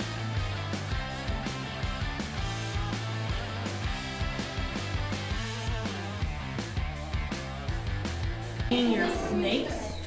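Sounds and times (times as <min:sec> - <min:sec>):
upbeat rock music: 0:00.0 - 0:09.4.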